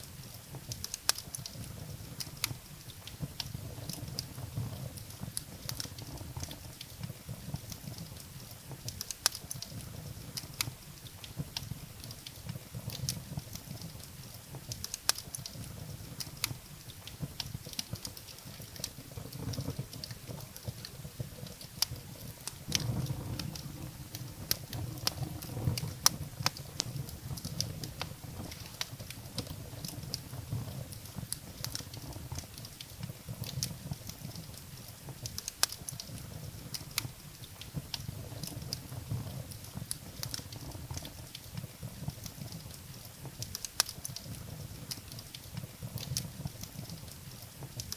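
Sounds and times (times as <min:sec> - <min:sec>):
firewood crackling and popping: 0:00.0 - 0:47.9
low rumble of flames: 0:00.0 - 0:47.9.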